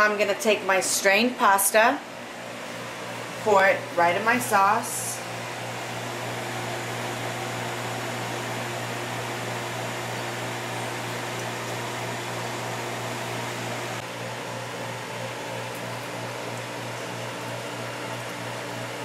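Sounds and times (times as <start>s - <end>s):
fan hum and hiss: 0.0s - 19.0s.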